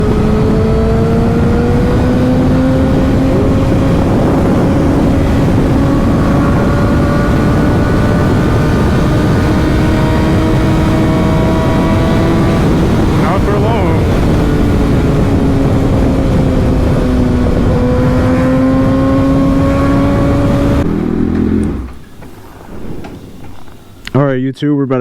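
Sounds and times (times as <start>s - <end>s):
motorcycle engine running: 0.0s - 22.6s
wind on microphone: 0.0s - 24.4s.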